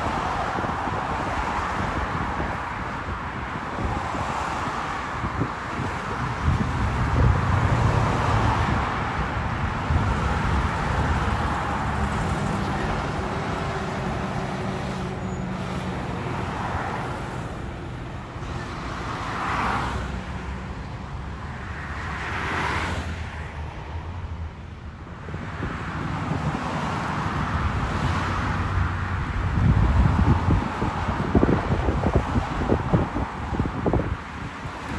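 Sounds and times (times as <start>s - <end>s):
cars and trucks driving past: 0.0s - 34.9s.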